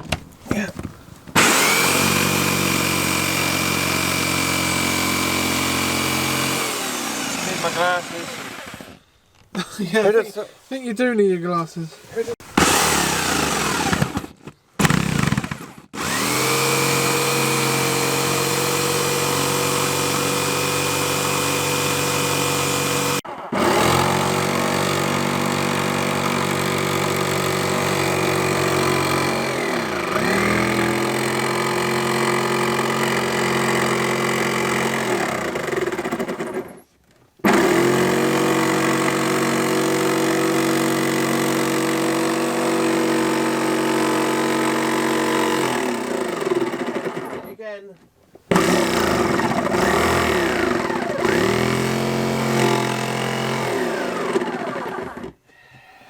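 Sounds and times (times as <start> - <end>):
electric jigsaw cutting: 1.4 - 9.0, 12.6 - 36.8, 37.4 - 47.5, 48.5 - 55.4.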